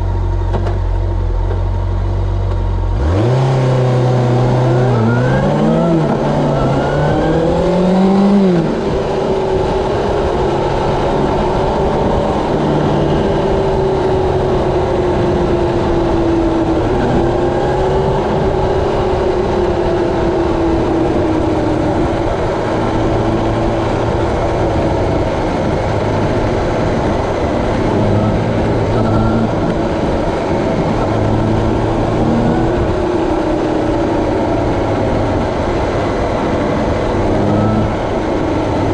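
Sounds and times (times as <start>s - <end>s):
motorcycle engine pulling hard: 2.9s - 38.9s
wind noise rushing: 3.2s - 38.9s.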